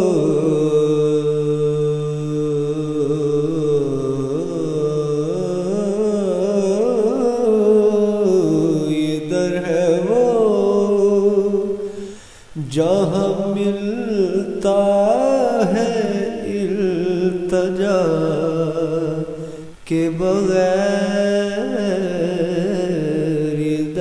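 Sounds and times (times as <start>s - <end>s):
man singing: 0.0s - 24.0s.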